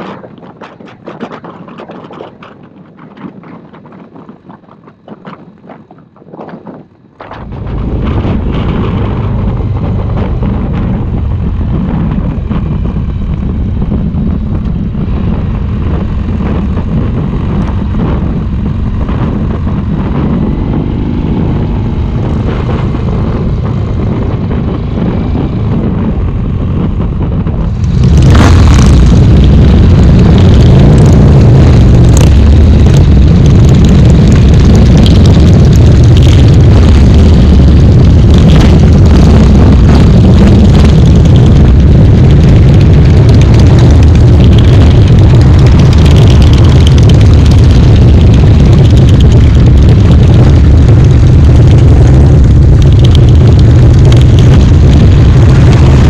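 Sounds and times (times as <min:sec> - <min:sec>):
motorcycle engine rumble: 0:00.0 - 0:56.0
wind noise on microphone: 0:00.0 - 0:56.0.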